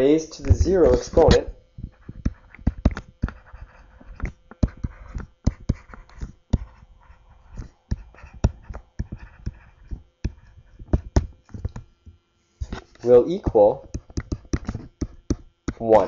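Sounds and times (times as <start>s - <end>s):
stylus scratching: 0.3s - 11.8s, 12.6s - 16.0s
stylus tapping on screen: 0.4s - 6.8s, 7.5s - 11.9s, 13.4s - 16.0s.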